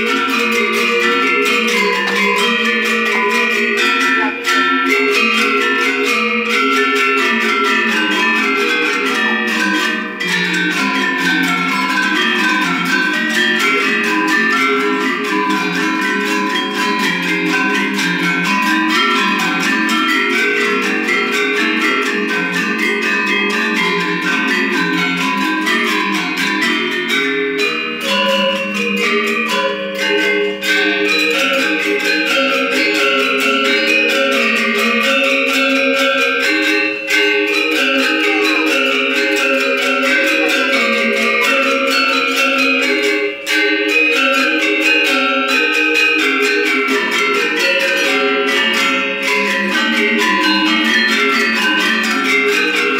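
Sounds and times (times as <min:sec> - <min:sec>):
metallophones struck with mallets: 0:00.0 - 0:52.9.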